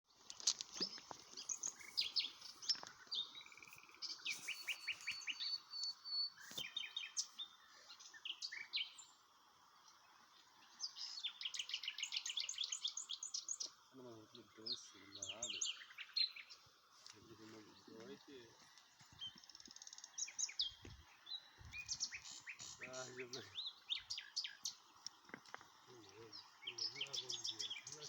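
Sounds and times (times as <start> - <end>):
small birds chirping: 0.1 - 28.0.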